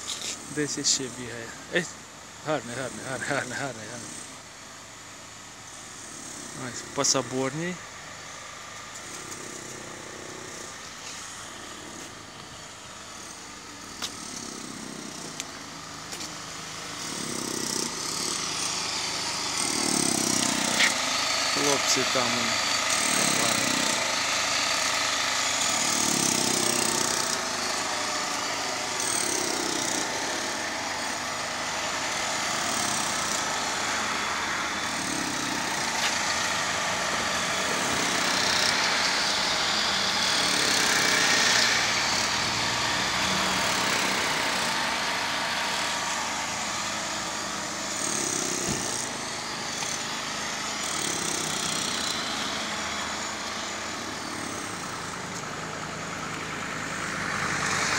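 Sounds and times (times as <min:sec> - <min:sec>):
motor engines rumbling: 0:10.7 - 0:57.9.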